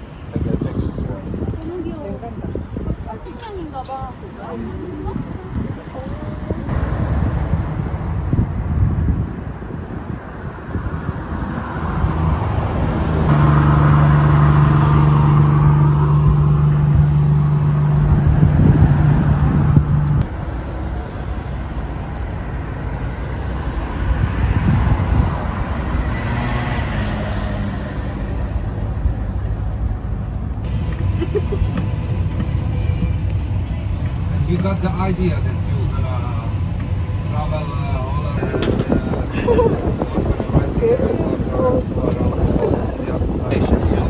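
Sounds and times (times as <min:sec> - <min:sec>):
road noise: 0:00.0 - 0:44.0
vehicle engine humming: 0:00.0 - 0:44.0.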